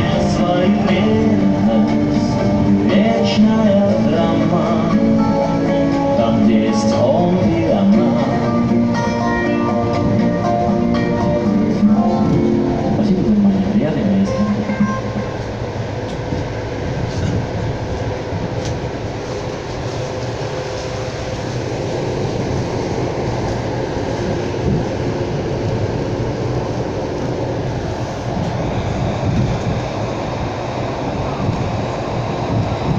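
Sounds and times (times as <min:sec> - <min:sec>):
train wheels on rails: 0:00.0 - 0:32.9.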